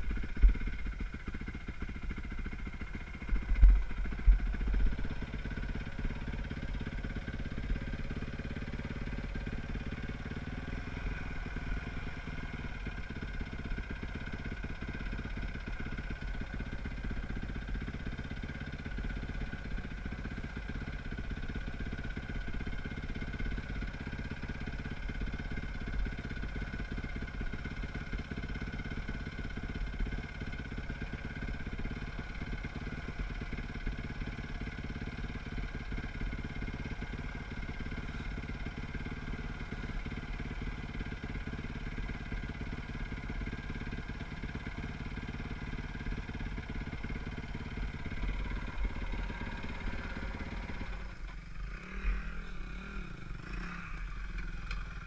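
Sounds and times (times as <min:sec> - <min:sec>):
dirt bike engine idling and revving: 0:00.0 - 0:55.0.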